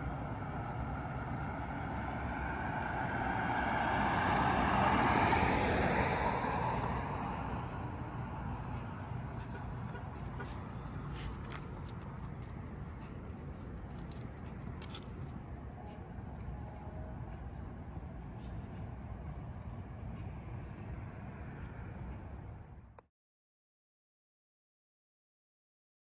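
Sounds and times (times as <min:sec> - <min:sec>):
insect trill: 0:00.0 - 0:22.9.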